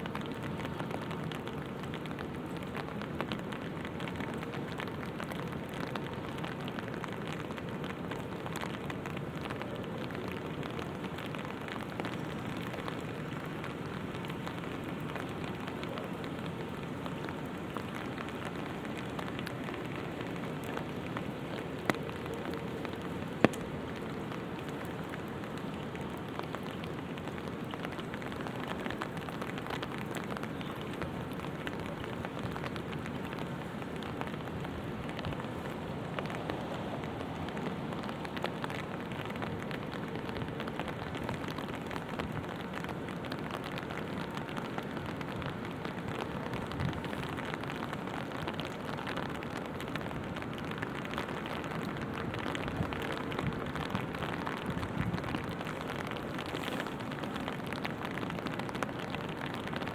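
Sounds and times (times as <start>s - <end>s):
rain pattering on an umbrella: 0.0s - 59.9s.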